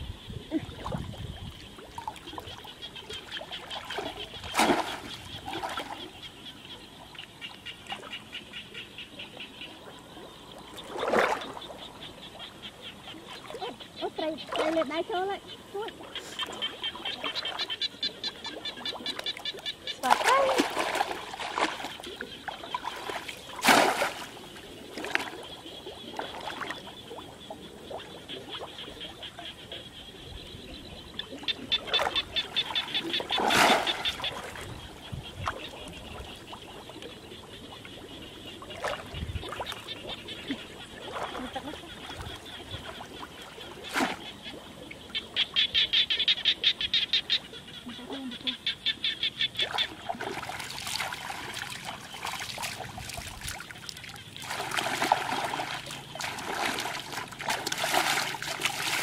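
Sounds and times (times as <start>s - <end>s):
water splashing: 0.5s - 6.2s, 9.9s - 12.2s, 13.0s - 29.5s, 31.2s - 45.4s, 49.5s - 59.0s.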